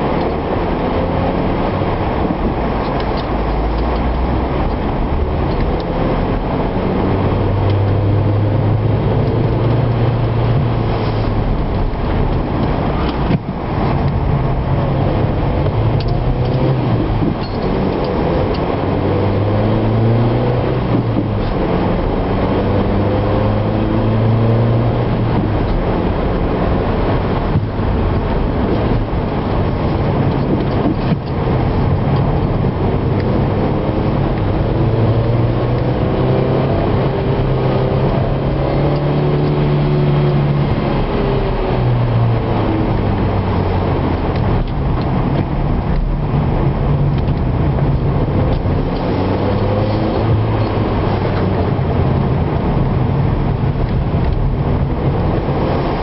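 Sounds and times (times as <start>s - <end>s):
car engine accelerating and shifting: 0.0s - 56.0s
road and tyre noise: 0.0s - 56.0s.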